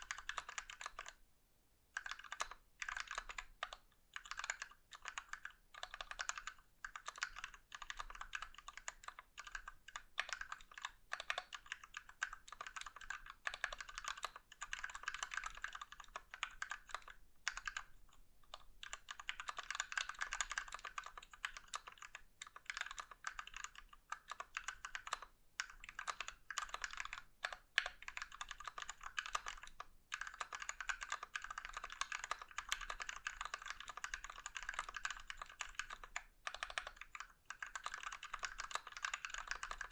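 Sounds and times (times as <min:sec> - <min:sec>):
fast typing on mechanical keyboard: 0:00.0 - 0:01.2, 0:02.0 - 0:17.9, 0:18.5 - 0:39.9.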